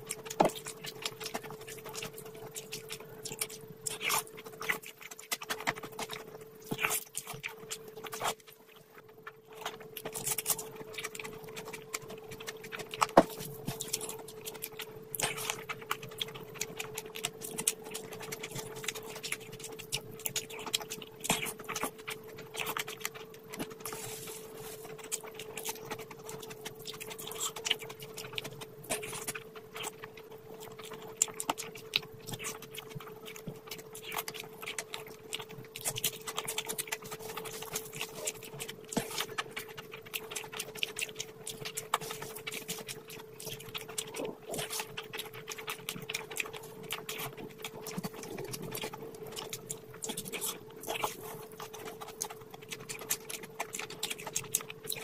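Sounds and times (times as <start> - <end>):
steady hum: 0.0 - 55.0
wet chewing and lip smacking: 0.0 - 55.0.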